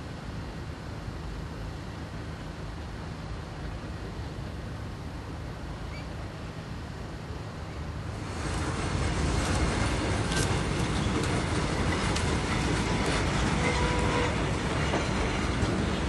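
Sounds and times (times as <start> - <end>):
wheels rumbling on rails: 0.0 - 16.0.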